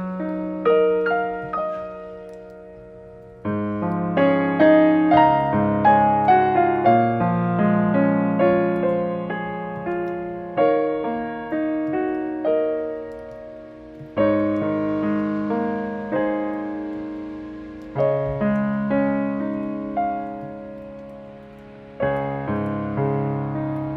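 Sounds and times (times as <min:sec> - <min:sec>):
slow gentle piano music: 0:00.0 - 0:23.9.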